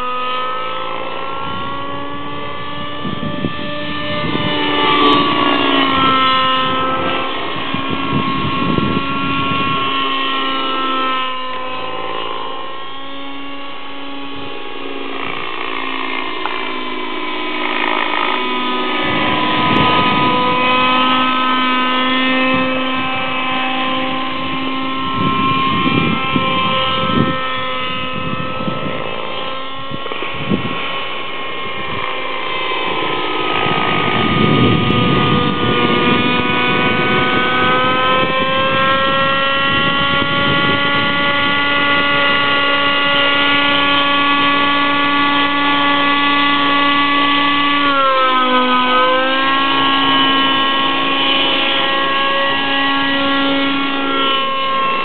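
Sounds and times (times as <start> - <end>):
model helicopter engine and rotor: 0.0 - 55.0.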